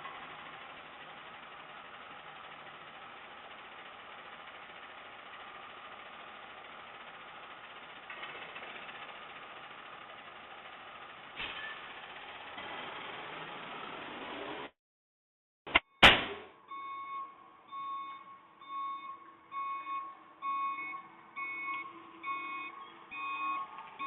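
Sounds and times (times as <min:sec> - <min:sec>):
garbage truck engine running: 0:00.0 - 0:14.8, 0:15.7 - 0:24.0.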